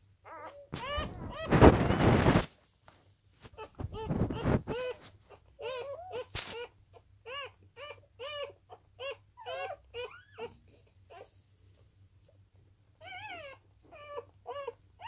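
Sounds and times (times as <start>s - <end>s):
puppies squeaking and whimpering: 0.2s - 2.5s, 3.5s - 11.3s, 13.0s - 15.0s.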